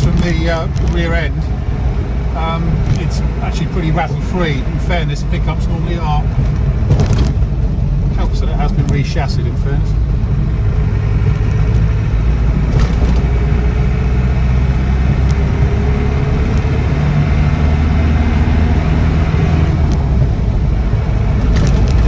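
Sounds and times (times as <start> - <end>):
diesel engine running: 0.0 - 22.0
road noise: 0.0 - 22.0.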